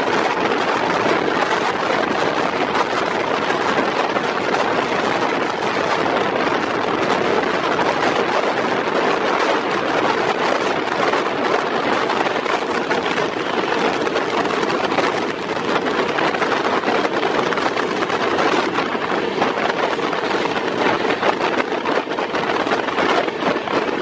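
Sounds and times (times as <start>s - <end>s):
train wheel and track noise: 0.0s - 24.0s.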